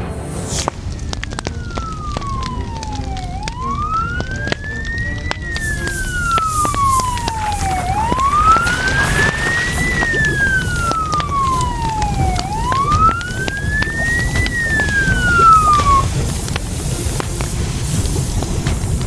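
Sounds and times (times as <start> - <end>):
steady rumble: 0.0 - 19.0
emergency siren wailing: 0.4 - 18.2
scattered clicks: 0.6 - 19.0.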